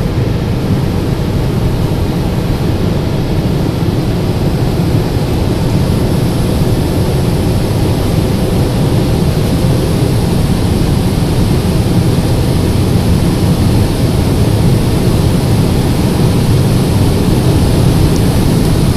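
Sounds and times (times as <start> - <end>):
car cabin road rumble: 0.0 - 18.9.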